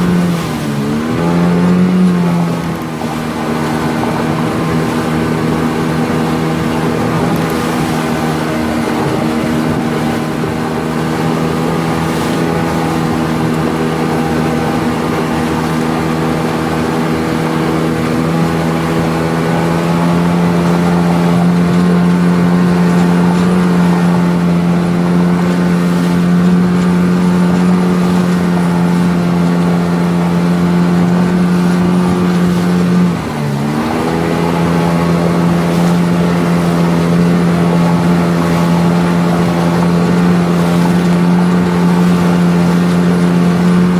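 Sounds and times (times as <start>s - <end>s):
outboard motor running: 0.0s - 43.9s.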